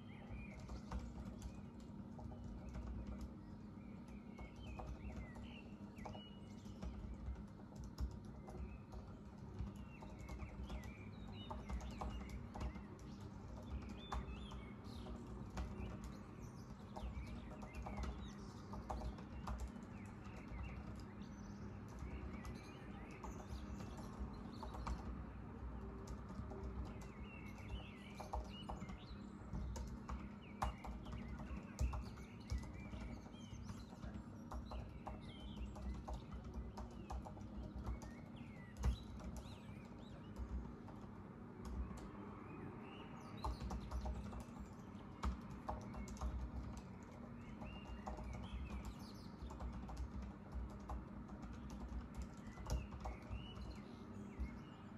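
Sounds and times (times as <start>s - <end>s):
birds chirping: 0.0s - 54.9s
laptop keyboard typing: 0.0s - 54.9s.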